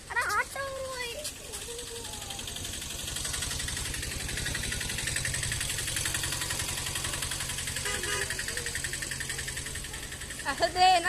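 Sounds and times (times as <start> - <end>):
engine putter: 0.0 - 11.0.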